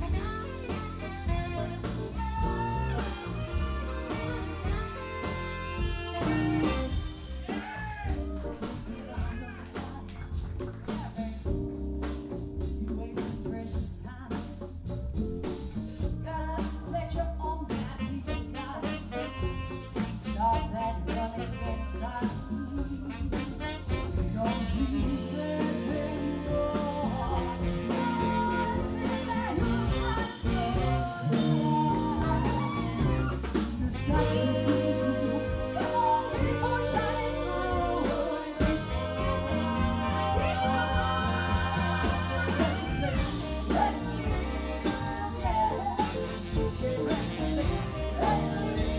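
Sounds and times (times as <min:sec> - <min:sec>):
women singing: 0:00.0 - 0:07.9, 0:16.2 - 0:48.9
live band playing: 0:00.0 - 0:48.9.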